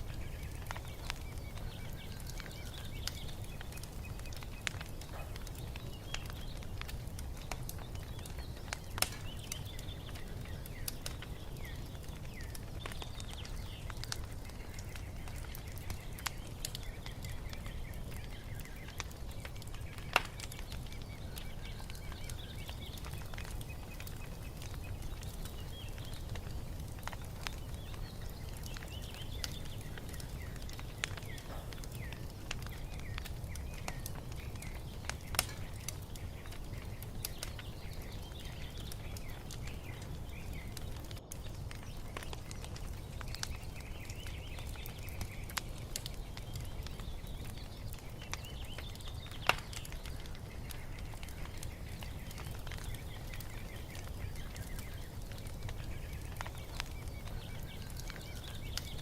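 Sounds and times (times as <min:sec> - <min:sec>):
small birds chirping: 0:00.0 - 0:59.0
wood fire crackling and popping: 0:00.0 - 0:59.0.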